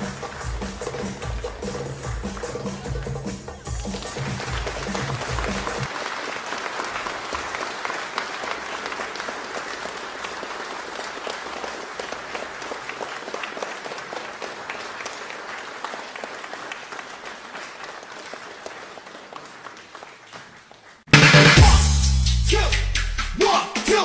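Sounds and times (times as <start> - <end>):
audience applauding: 0.0 - 21.5.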